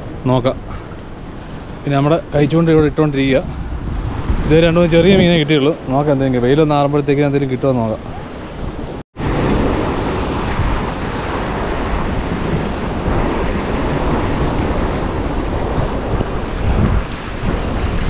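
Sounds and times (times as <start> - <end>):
waves breaking on rocks: 0.0 - 18.0
wind buffeting microphone: 0.0 - 18.0.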